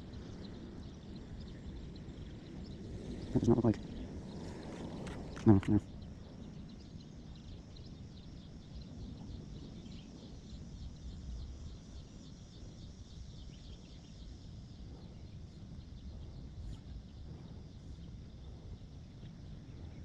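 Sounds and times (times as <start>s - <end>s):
low rumble of wind: 0.0s - 20.0s.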